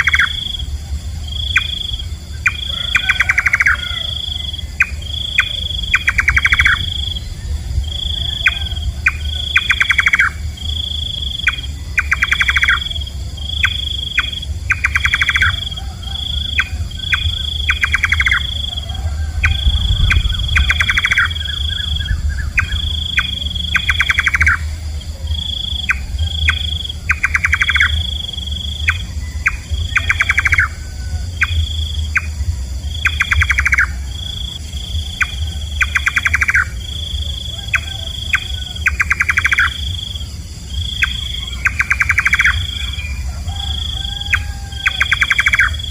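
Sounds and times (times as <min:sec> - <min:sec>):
nightjar calling: 0:00.0 - 0:45.9
steady low rumble: 0:00.0 - 0:45.9.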